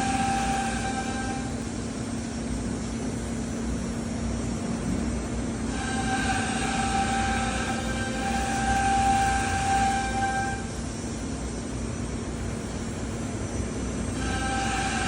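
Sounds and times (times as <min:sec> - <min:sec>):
machine drone and hum: 0:00.0 - 0:15.0.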